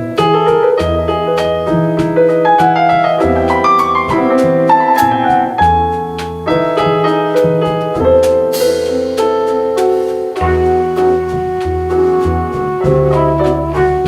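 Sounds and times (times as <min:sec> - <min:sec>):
double bass: 0:00.0 - 0:14.0
drums: 0:00.0 - 0:14.0
jazz piano: 0:00.0 - 0:14.0.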